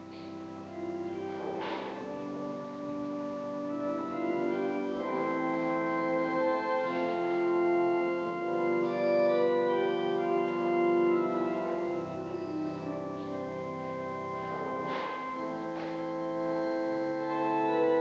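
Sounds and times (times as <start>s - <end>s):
organ playing slow chords: 0.0s - 18.0s.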